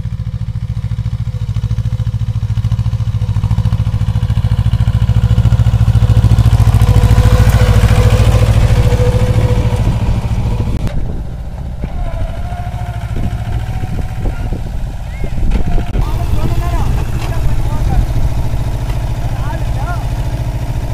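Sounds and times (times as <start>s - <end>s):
tractor diesel engine chugging: 0.0s - 20.9s.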